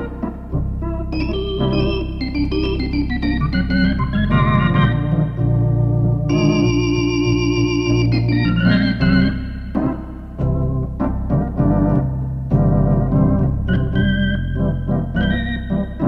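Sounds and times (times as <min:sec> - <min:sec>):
organ playing blues: 0:00.0 - 0:16.0
steady bass notes: 0:00.0 - 0:16.0.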